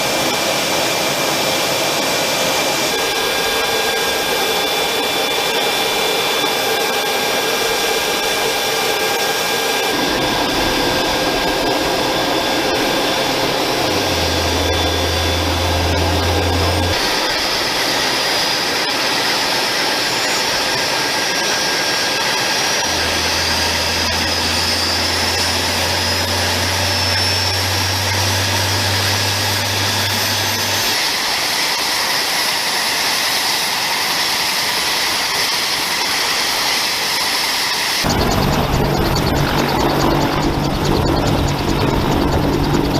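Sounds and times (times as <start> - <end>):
helicopter turbine whine: 0.0 - 42.9
high whine: 0.0 - 42.9.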